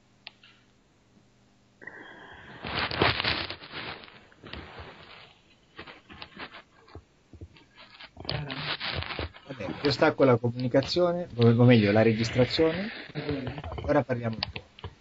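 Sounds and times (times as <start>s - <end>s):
rustling and scraping of movement: 2.4s - 15.0s.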